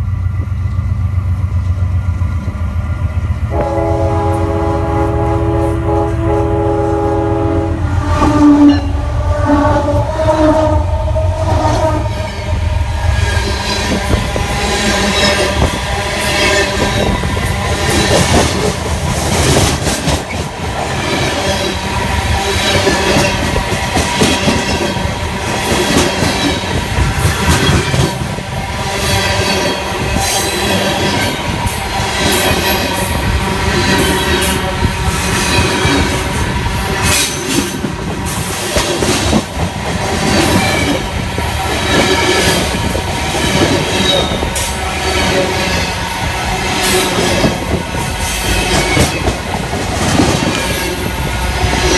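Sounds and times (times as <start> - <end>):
train rumbling over track: 0.0 - 51.9
wheels ringing on rails: 0.0 - 51.9.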